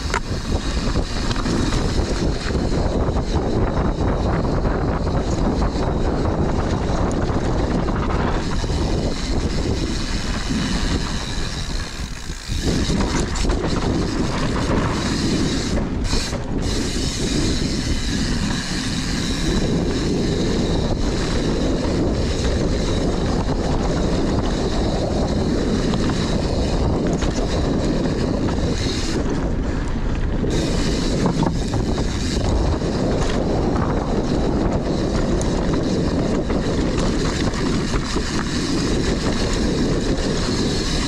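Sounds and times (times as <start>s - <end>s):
bike chain rattling: 0.0s - 41.0s
bike tyres rolling on dirt: 0.0s - 41.0s
wind rushing over microphone: 0.0s - 41.0s.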